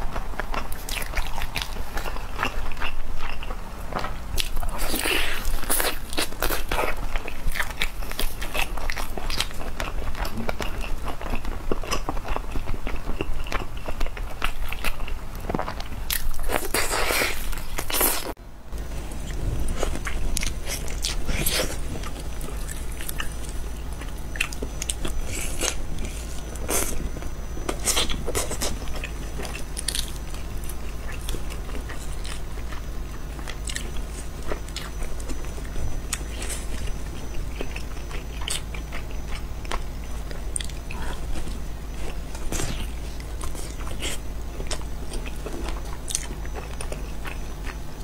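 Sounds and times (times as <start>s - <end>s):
biting and chewing food: 0.0s - 48.0s
steady low hum: 0.0s - 48.0s.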